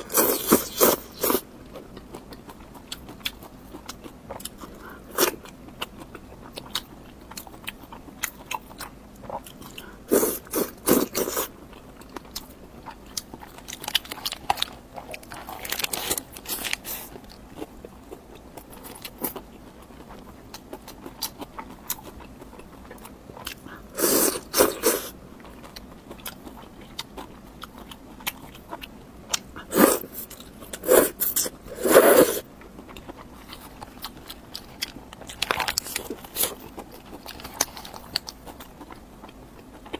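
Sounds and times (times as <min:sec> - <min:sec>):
biting and chewing: 0:00.0 - 0:39.9
food crunching: 0:00.0 - 0:39.9.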